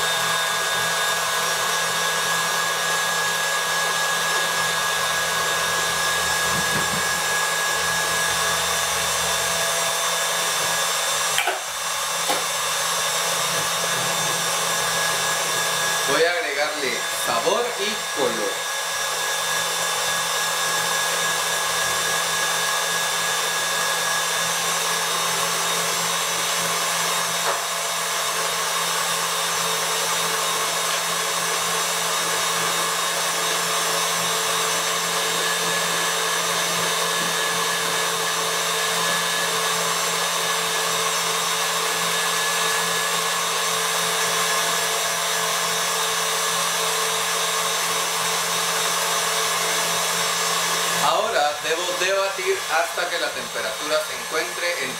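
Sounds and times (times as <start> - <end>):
stand mixer motor whining: 0.0 - 54.9.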